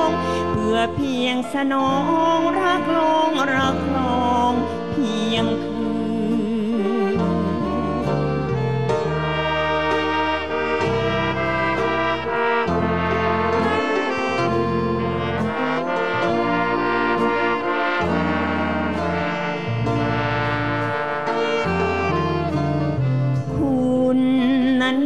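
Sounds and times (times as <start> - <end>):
saxophones and brass melody: 0.0 - 24.9
bass line: 0.0 - 25.0.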